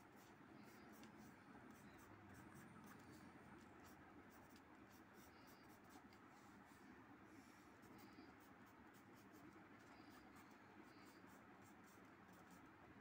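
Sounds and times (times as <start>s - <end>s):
pencil scratching on paper: 0.0s - 6.9s, 7.8s - 12.8s.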